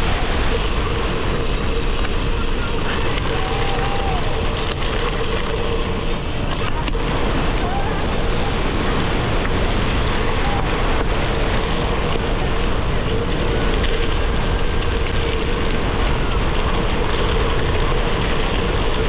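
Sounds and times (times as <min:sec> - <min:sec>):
bike tyres rolling on gravel: 0:00.0 - 0:19.0
wind buffeting microphone: 0:00.0 - 0:19.0.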